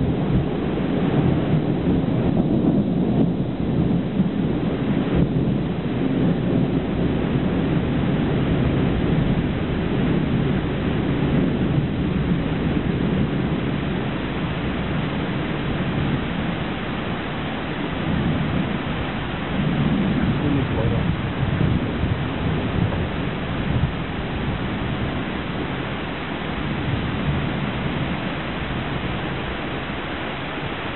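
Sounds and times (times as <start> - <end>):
heavy rain: 0.0 - 30.9
rolling thunder: 0.0 - 30.9.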